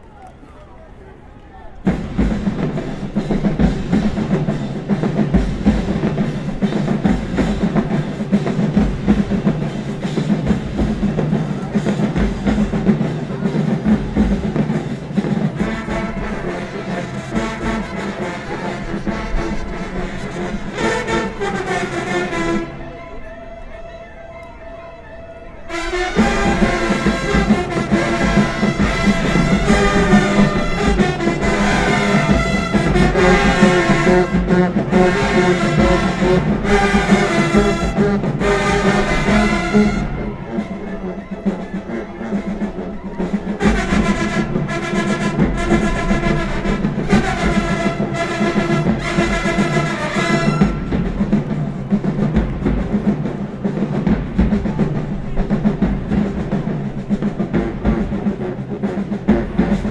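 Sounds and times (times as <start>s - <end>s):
marching band brass: 0.0s - 59.9s
drums: 1.6s - 59.9s.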